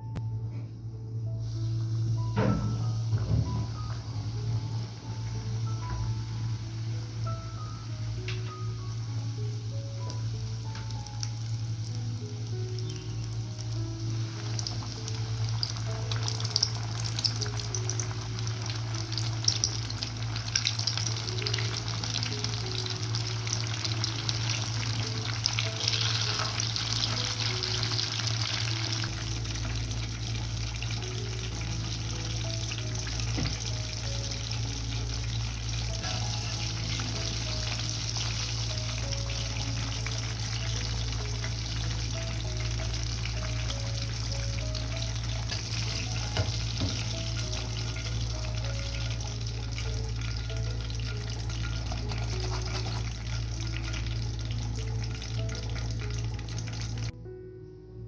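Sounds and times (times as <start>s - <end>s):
quiet background music: 0.0s - 58.0s
chicken deep-frying in oil: 1.6s - 57.2s.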